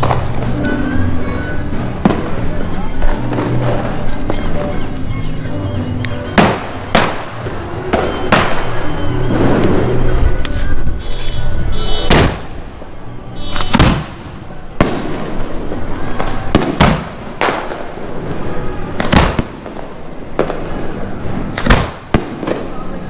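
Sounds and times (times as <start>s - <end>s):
fireworks bangs: 0.0s - 10.3s, 10.9s - 23.0s.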